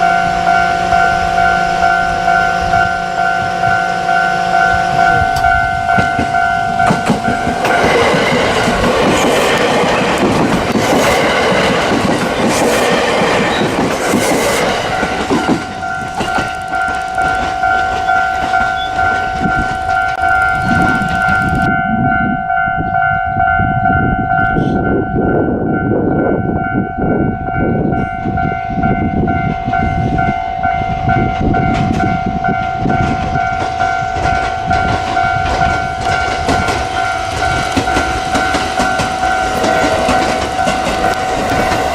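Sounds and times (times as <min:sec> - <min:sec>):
level crossing bell ringing: 0:00.0 - 0:10.2, 0:14.7 - 0:41.9
train wheels on rails: 0:00.0 - 0:22.7, 0:23.4 - 0:41.9.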